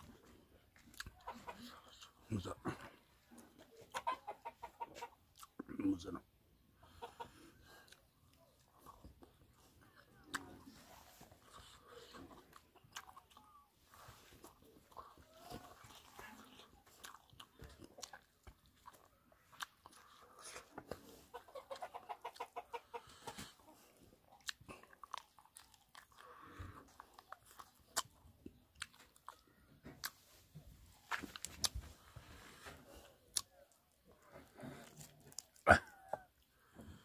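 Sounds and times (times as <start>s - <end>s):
person chewing and crunching: 0.0s - 3.8s, 5.0s - 6.0s, 6.9s - 36.8s.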